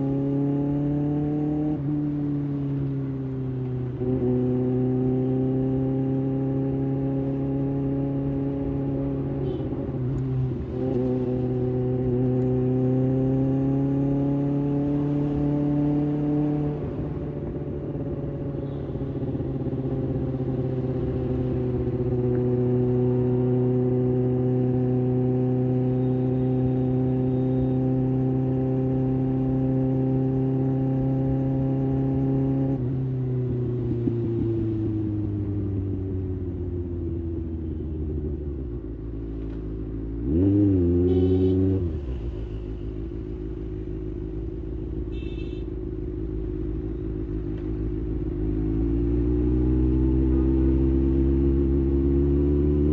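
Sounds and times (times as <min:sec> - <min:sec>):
motorcycle engine on the move: 0:00.0 - 0:52.9.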